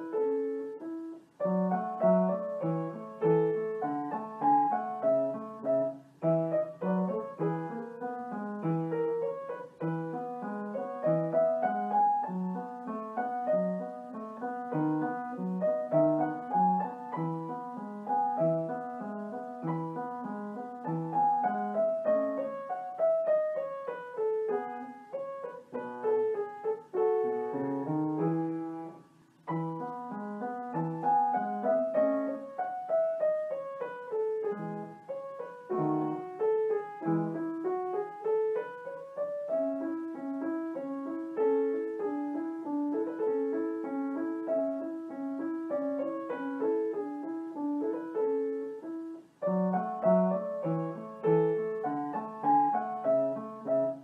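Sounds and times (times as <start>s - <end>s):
piano melody: 0.0s - 54.0s.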